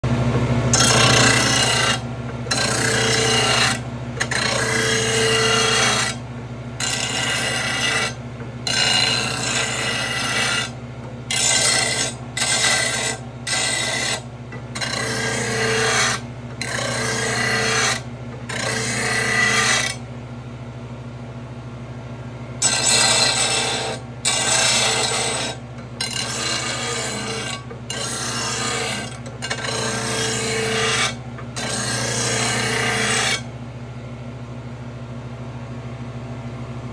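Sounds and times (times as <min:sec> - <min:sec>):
grinder motor humming: 0:00.1 - 0:20.1, 0:22.4 - 0:33.6
blade scraping on grinding wheel: 0:00.6 - 0:20.1, 0:22.6 - 0:33.5.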